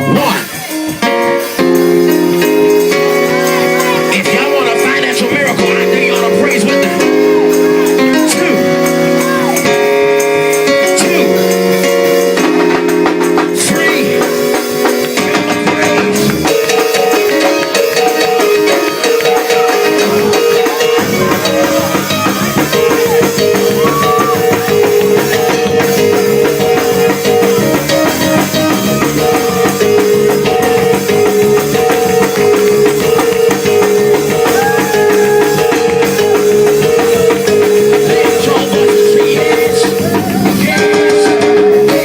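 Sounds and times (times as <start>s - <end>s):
upbeat praise band music: 0.0s - 42.0s.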